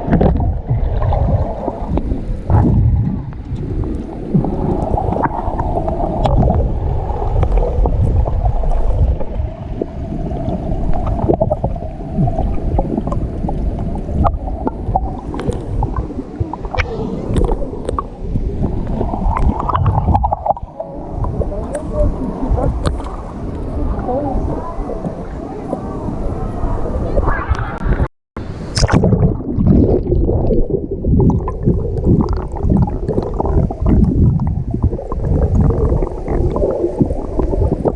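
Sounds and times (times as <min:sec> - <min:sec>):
muffled underwater sloshing: 0:00.0 - 0:37.9.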